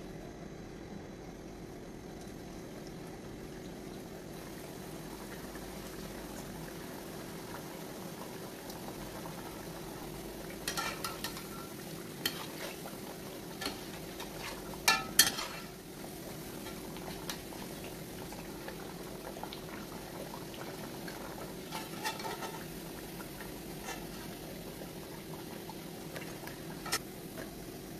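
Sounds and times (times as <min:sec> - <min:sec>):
dough sizzling in hot oil: 0:00.0 - 0:27.9.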